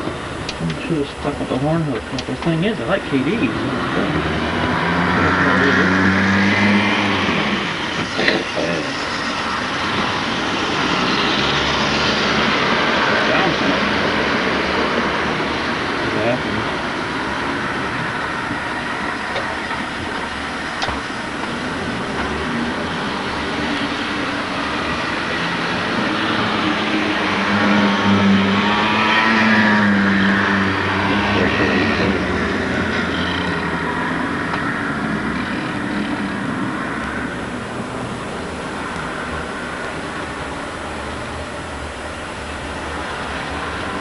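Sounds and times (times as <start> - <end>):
model train humming and rumbling: 0.0 - 6.1, 6.9 - 44.0.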